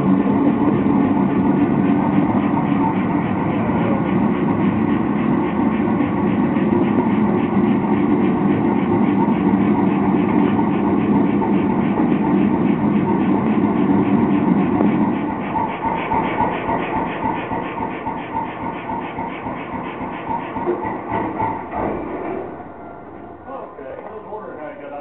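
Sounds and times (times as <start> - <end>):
gas forge burner roaring: 0.0 - 25.0.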